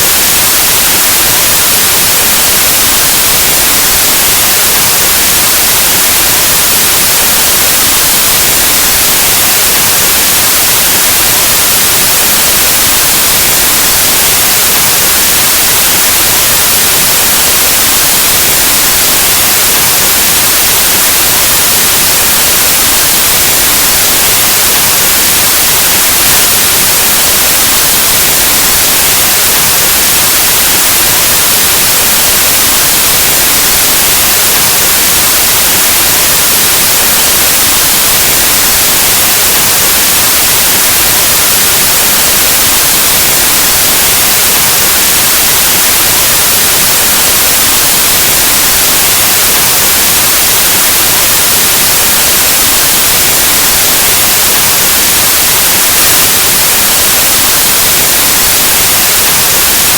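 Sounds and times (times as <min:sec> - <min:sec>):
static white noise hiss: 0:00.0 - 0:59.9.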